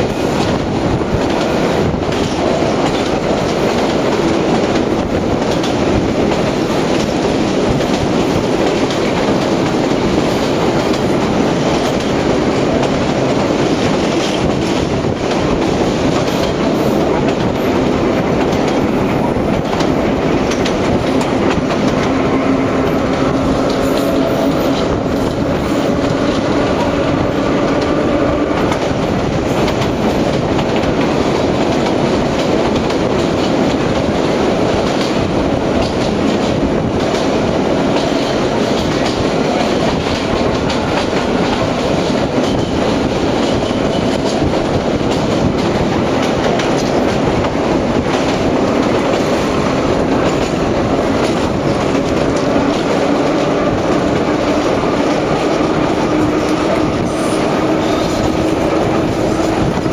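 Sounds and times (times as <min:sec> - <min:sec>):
subway train rumbling: 0:00.0 - 0:59.9
wheels clacking over rail joints: 0:00.0 - 0:59.9.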